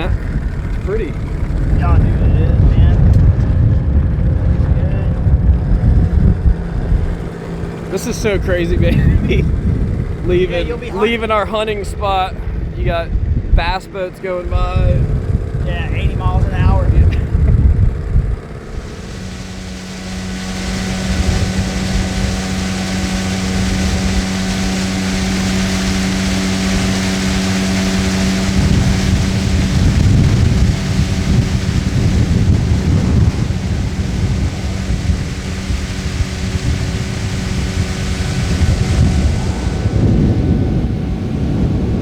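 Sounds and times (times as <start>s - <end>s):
outboard motor running: 0.0s - 42.0s
wind noise on microphone: 0.0s - 42.0s.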